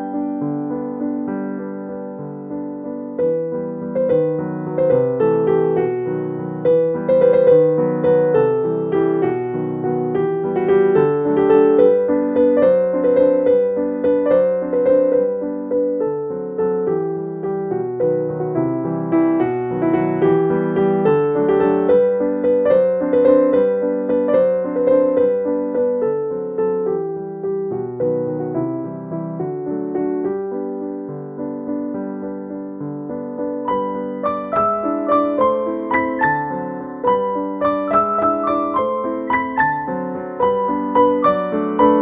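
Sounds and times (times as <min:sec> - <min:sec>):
piano melody: 0:00.0 - 0:42.0.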